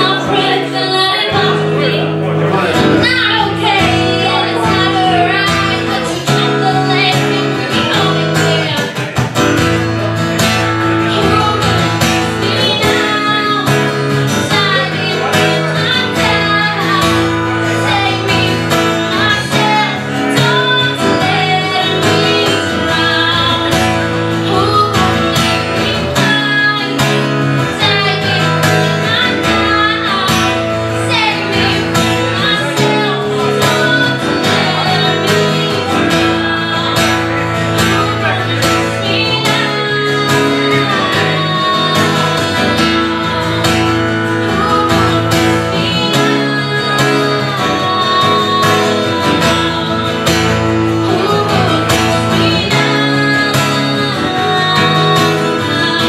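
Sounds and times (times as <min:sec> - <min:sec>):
acoustic guitar chords: 0:00.0 - 0:56.0
woman singing into a microphone: 0:00.0 - 0:56.0.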